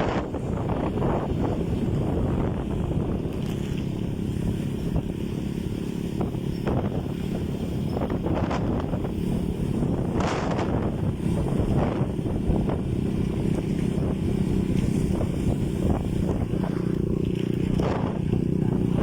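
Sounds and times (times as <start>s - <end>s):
boat motor running: 0.0s - 19.0s
wind buffeting microphone: 0.0s - 19.0s.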